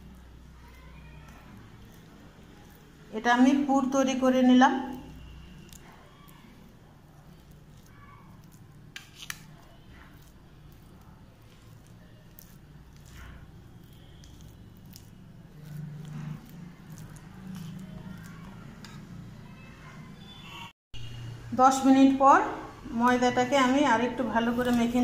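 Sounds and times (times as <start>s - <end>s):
spoon squishing sticky filling: 0.0s - 20.4s, 23.1s - 25.0s.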